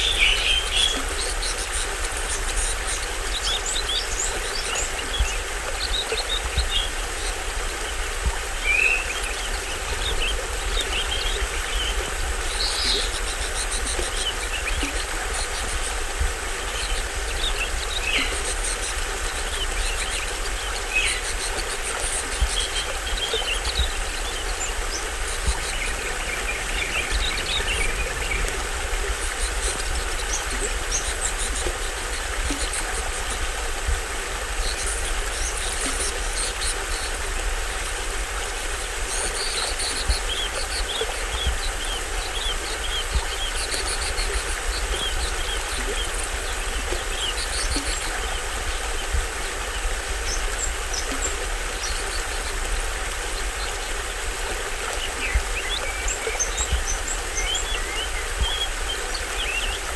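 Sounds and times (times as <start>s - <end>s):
birds chirping: 0.0s - 37.6s, 39.0s - 59.9s
small waterfall rumbling: 0.0s - 59.9s.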